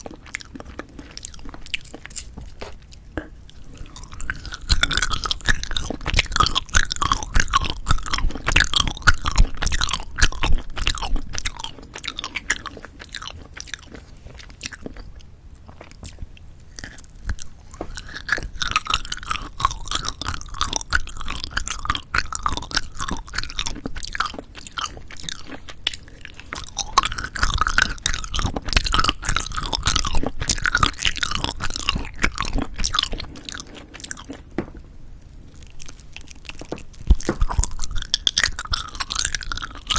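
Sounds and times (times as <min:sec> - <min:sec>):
wet chewing of jelly candies: 0:00.0 - 0:39.9.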